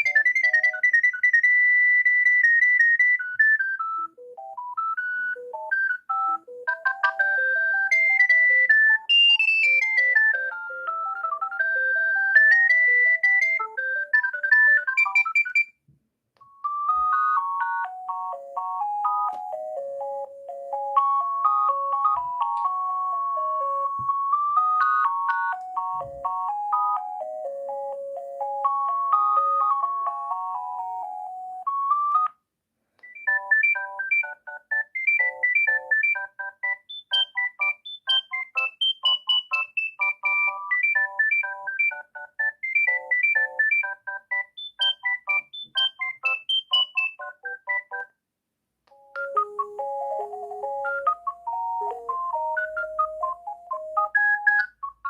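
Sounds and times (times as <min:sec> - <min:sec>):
phone ringtone beeping melodies: 0:00.0 - 0:15.8, 0:16.4 - 0:32.4, 0:33.0 - 0:48.2, 0:48.9 - 0:55.0.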